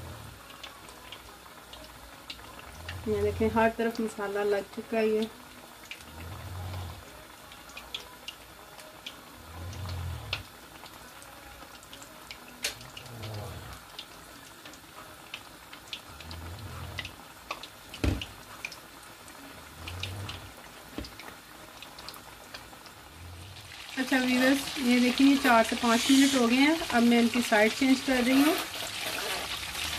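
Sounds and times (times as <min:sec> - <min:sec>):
fish deep-frying in oil: 0:00.1 - 0:29.9.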